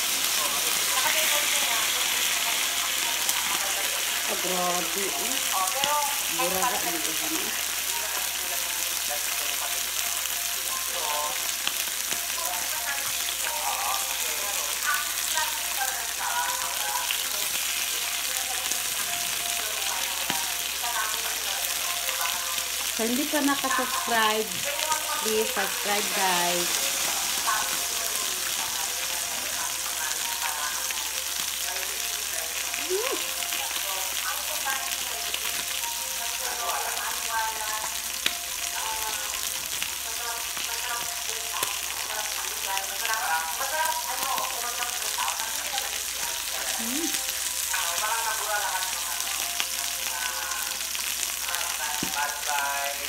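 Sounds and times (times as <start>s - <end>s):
beef sizzling on grill: 0.0s - 53.0s.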